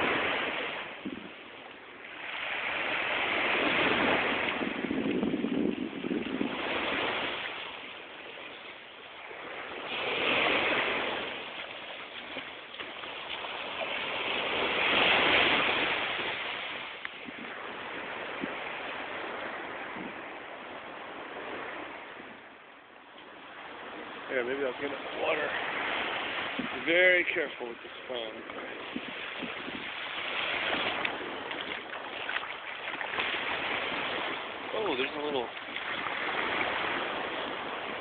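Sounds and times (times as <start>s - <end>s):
waves washing on a beach: 0.0s - 38.0s.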